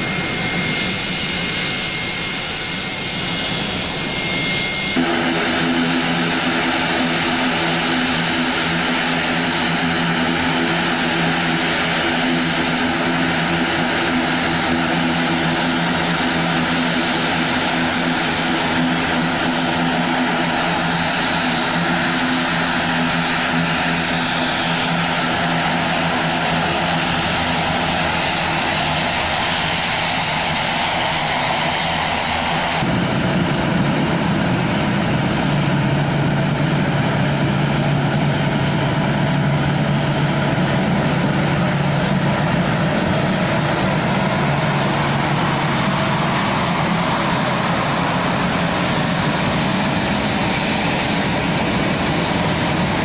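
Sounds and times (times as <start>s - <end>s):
propeller engines droning: 0.0s - 53.0s.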